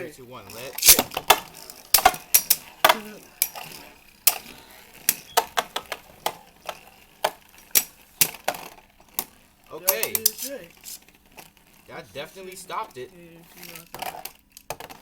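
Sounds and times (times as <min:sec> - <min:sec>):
spinning tops clashing clicks: 0:00.0 - 0:15.0
spinning tops in plastic stadium: 0:00.0 - 0:15.0.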